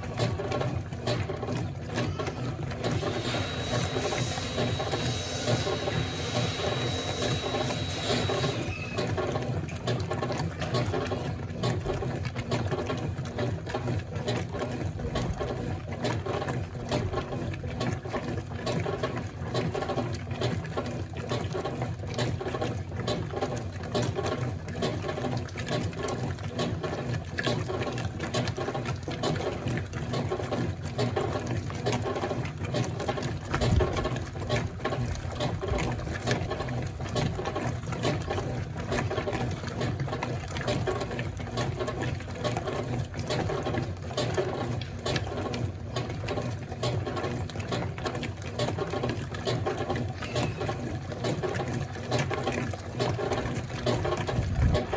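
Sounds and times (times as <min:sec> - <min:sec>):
washing machine motor churning: 0:00.0 - 0:54.9
water sloshing: 0:00.0 - 0:54.9.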